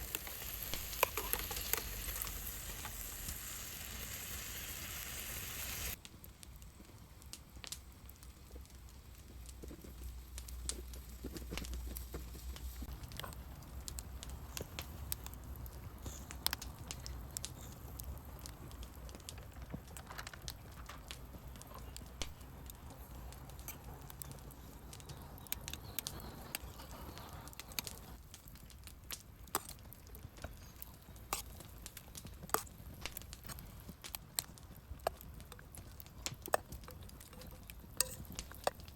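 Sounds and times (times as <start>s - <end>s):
campfire crackling: 0.0s - 38.9s
sharp pops of fire: 5.7s - 38.9s.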